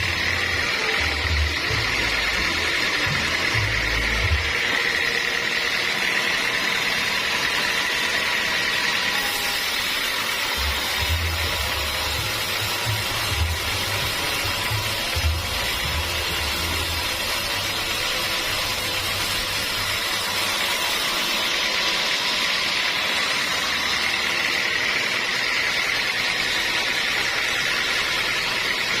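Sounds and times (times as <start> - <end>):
sawmill saw running: 0.0 - 29.0.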